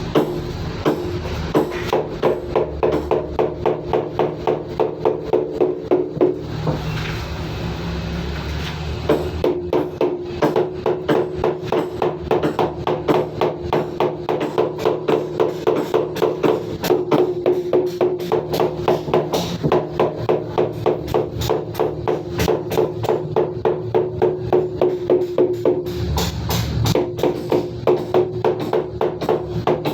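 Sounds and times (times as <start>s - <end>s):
quick percussive beat: 0.0s - 6.5s, 9.0s - 29.9s.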